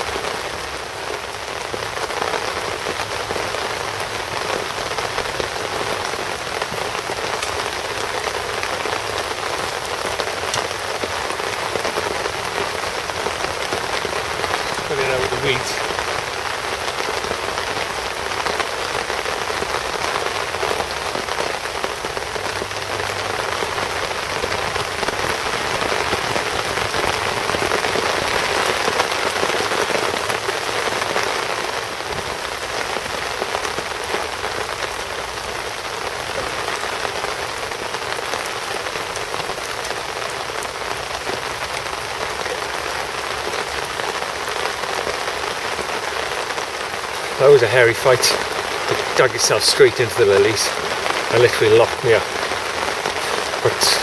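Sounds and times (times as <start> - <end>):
rain falling on lake: 0.0 - 54.0.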